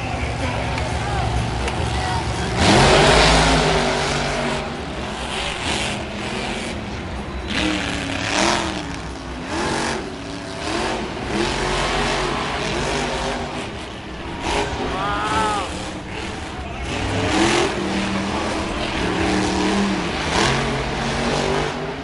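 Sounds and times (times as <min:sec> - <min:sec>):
truck engines revving: 0:00.0 - 0:22.0.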